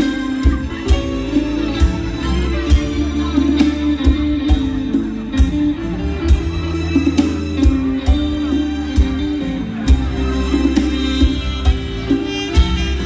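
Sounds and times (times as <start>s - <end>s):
bass: 0.0s - 13.0s
drum kit: 0.0s - 13.0s
live band through pa: 0.0s - 13.0s
plucked string lead: 0.0s - 13.0s.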